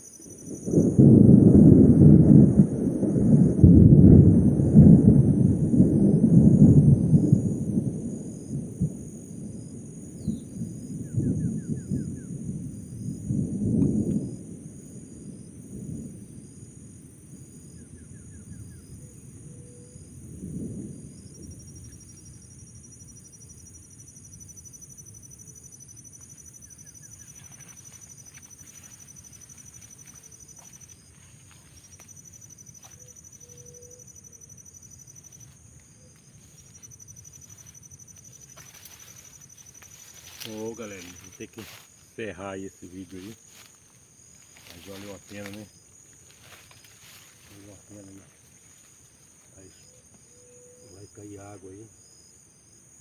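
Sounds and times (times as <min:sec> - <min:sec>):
thunder rumbling: 0:00.0 - 0:49.9
insect chirps: 0:00.0 - 0:53.0
high insect buzz: 0:05.6 - 0:53.0.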